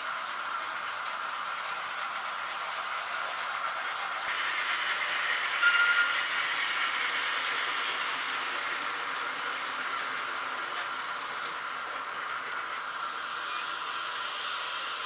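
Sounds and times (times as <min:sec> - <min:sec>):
model trains whirring on rails: 0:00.0 - 0:15.0.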